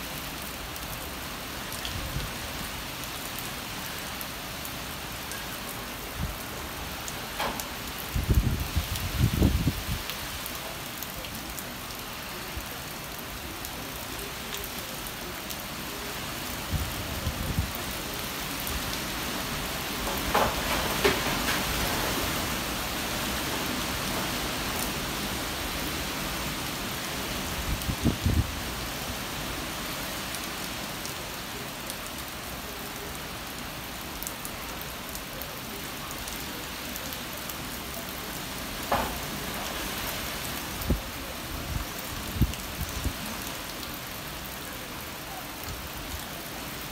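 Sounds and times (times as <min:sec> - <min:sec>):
rain on foliage: 0:00.0 - 0:46.9.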